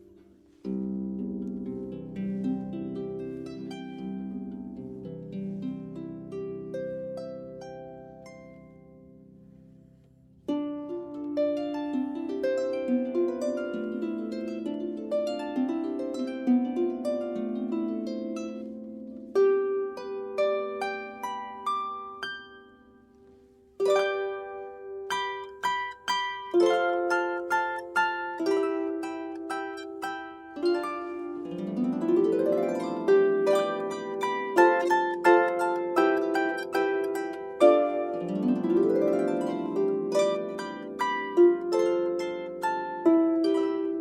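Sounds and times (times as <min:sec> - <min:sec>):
harp plucked notes: 0:00.0 - 0:44.0.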